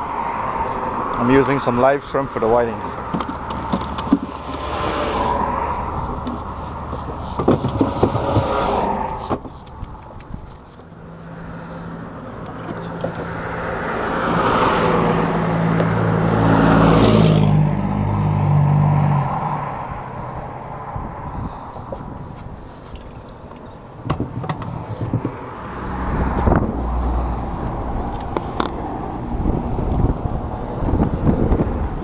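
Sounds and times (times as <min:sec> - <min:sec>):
passing engine hum: 0:00.0 - 0:32.0.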